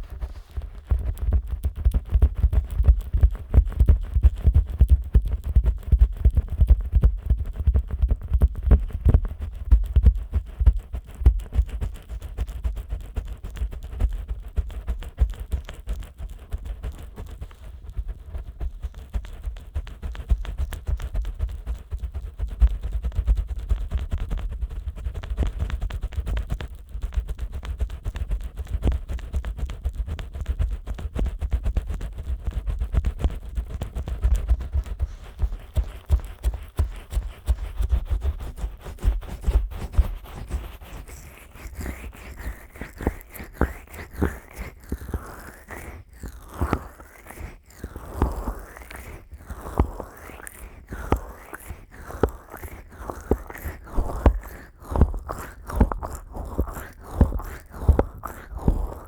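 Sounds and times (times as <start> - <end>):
fingers rubbing on microphone: 0.0 - 59.0.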